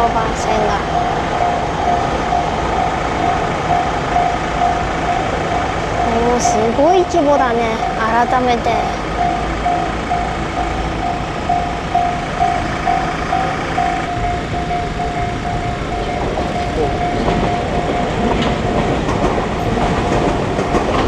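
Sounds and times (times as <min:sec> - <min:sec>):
level crossing warning bell: 0:00.0 - 0:21.0
train running past: 0:00.0 - 0:21.0.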